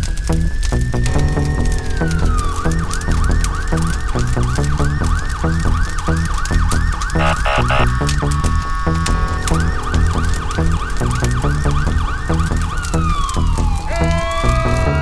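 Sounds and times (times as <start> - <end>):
emergency vehicle siren: 2.0 - 15.0.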